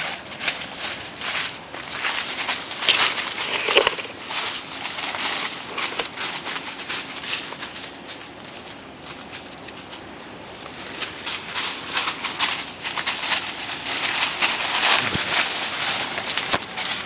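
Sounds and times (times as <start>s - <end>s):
dry leaves and twigs crackling: 0.0s - 17.0s.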